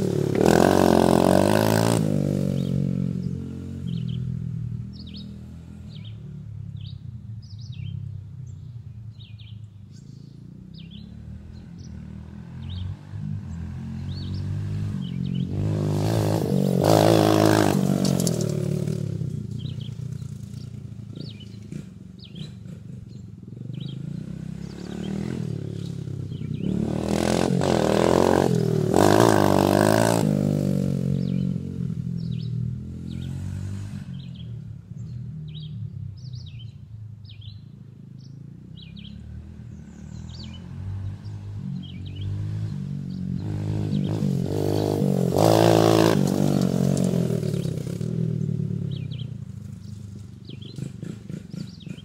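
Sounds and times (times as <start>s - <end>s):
dirt bike engine revving past: 0.0s - 6.6s, 10.7s - 35.8s, 38.8s - 52.0s.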